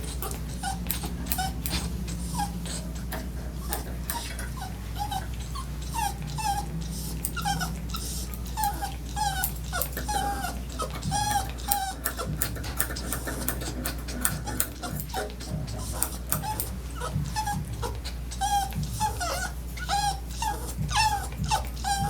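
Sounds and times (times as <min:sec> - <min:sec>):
dog whimpering and whining: 0:00.0 - 0:22.0
steady low hum: 0:00.0 - 0:22.0.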